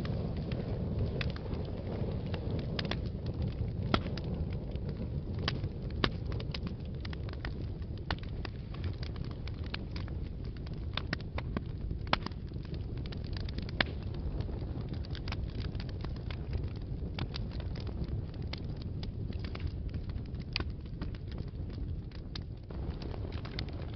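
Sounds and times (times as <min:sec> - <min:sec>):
low rumble of flames: 0:00.0 - 0:23.9
wood fire crackling and popping: 0:00.0 - 0:23.9.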